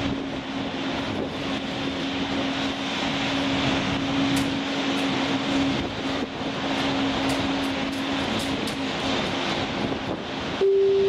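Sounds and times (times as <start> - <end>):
constant low hum: 0.0 - 11.0
jet aircraft drone: 0.0 - 11.0.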